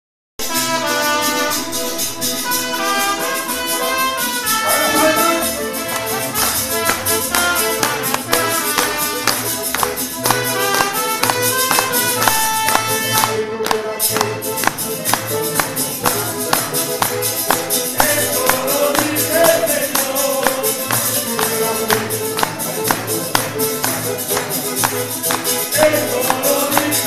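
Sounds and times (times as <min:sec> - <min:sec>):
strummed guitars: 0:00.4 - 0:27.0
trumpet melody: 0:00.4 - 0:27.0.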